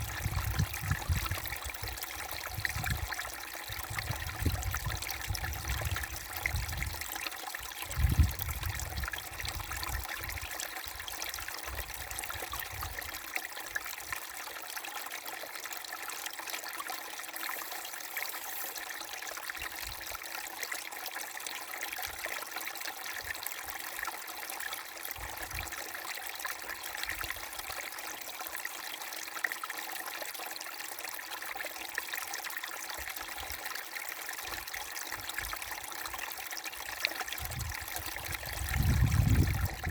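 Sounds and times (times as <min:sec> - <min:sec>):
brook water trickling and splashing: 0:00.0 - 0:39.9.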